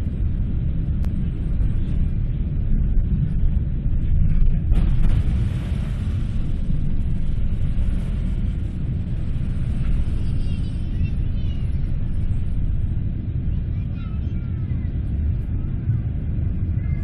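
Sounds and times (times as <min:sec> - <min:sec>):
jet engines during takeoff: 0:00.0 - 0:17.0.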